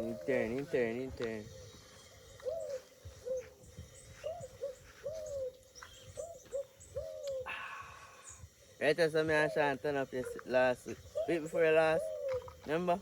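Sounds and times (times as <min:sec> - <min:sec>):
bird hooting: 0:00.0 - 0:00.8, 0:01.4 - 0:12.9.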